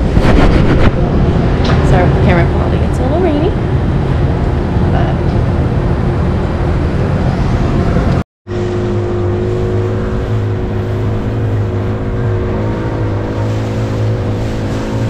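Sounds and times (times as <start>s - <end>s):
steady rumble: 0.0s - 15.0s
wind and water rushing: 0.0s - 15.0s
outboard motor running: 1.0s - 15.0s.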